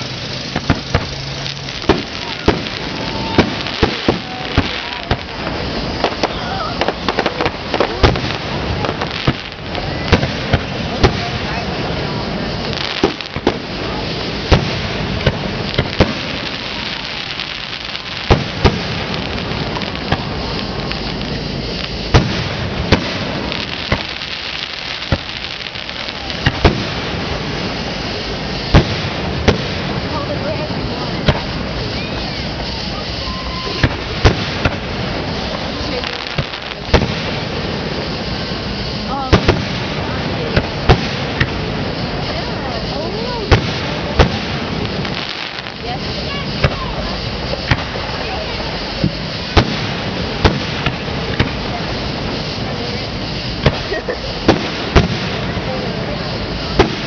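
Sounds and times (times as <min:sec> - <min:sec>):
firework shells bursting: 0:00.0 - 0:57.0
steady background noise: 0:00.0 - 0:57.0
steady hiss: 0:00.0 - 0:57.0.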